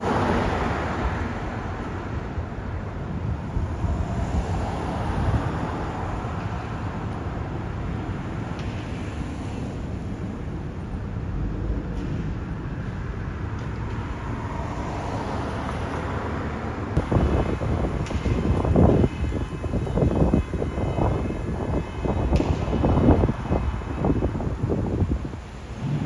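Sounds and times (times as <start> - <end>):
low rumble of road traffic: 0.0 - 26.0
wind noise on microphone: 0.0 - 26.0.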